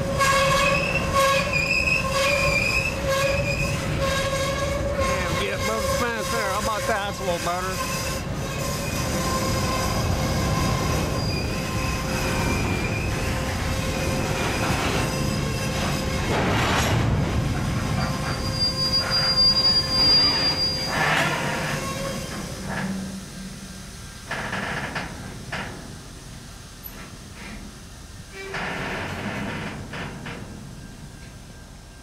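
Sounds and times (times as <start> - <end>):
train wheels squealing on rail: 0.0 - 25.2, 28.3 - 32.0
low rolling rumble of train: 0.0 - 32.0
train cars clanking and rattling: 0.0 - 32.0.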